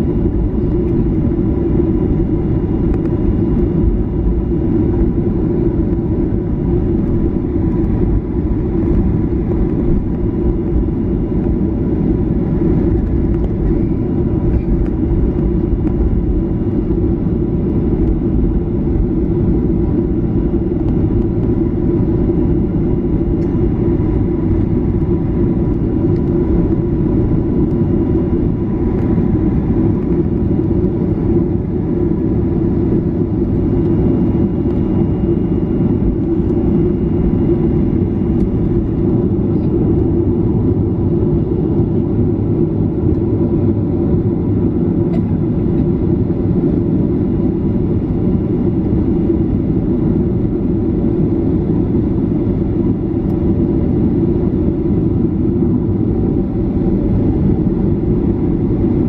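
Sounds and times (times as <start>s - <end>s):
airplane cabin rumble: 0.0s - 59.0s
faint steady whine: 0.0s - 59.0s.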